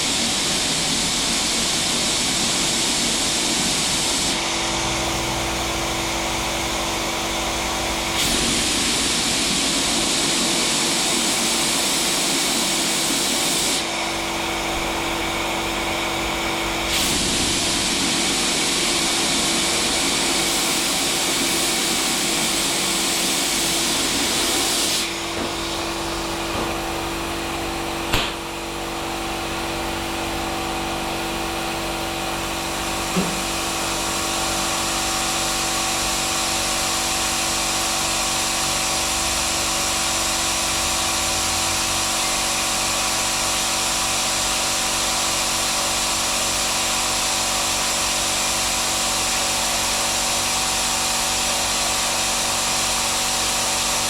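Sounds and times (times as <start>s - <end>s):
power tool running: 0.0s - 54.0s.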